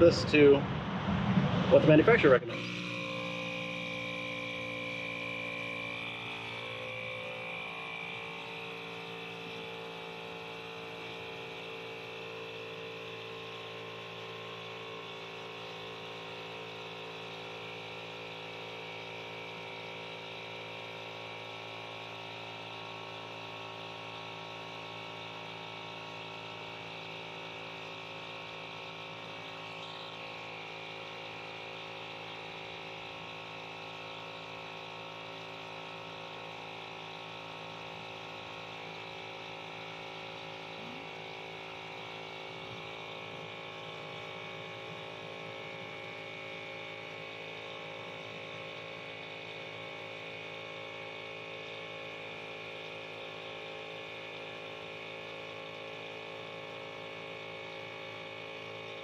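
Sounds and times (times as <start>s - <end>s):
tyre inflator humming: 1.7s - 59.0s.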